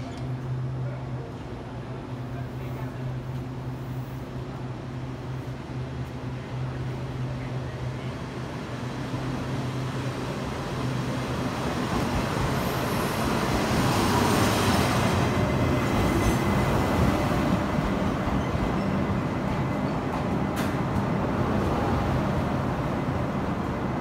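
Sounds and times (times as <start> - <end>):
train rolling into station: 0.0 - 24.0.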